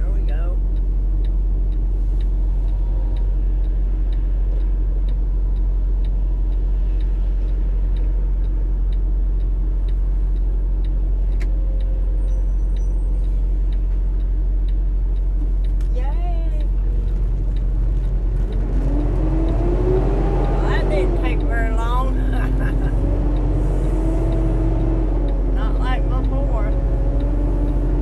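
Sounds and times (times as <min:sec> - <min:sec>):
car engine idling: 0:00.0 - 0:28.0
turn signal ticking: 0:00.0 - 0:28.0.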